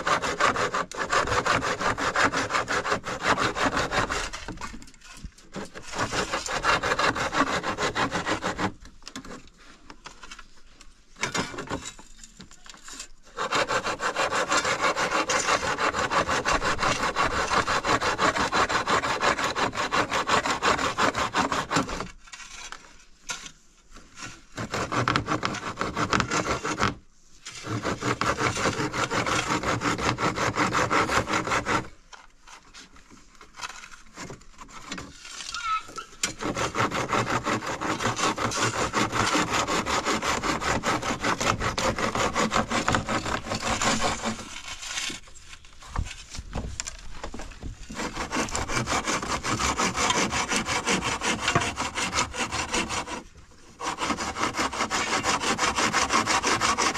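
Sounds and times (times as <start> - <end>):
hand saw cutting wood: 0.0 - 10.5, 11.2 - 56.9.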